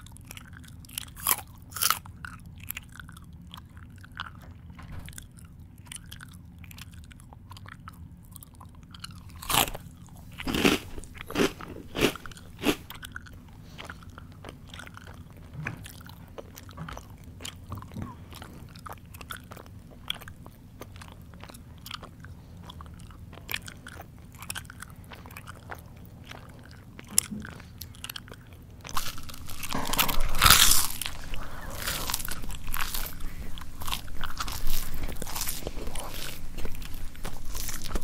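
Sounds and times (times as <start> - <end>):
crunching of crunchy food: 0.0 - 38.0
wet mouth chewing clicks: 0.0 - 38.0.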